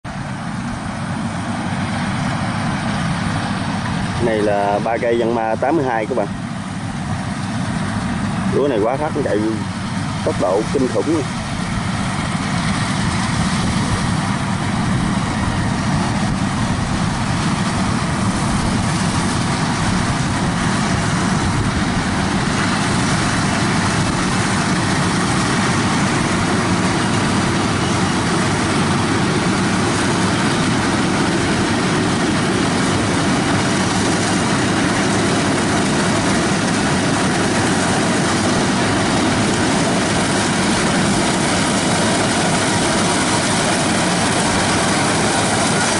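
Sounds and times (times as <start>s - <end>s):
combine harvester engine running: 0.0s - 45.9s.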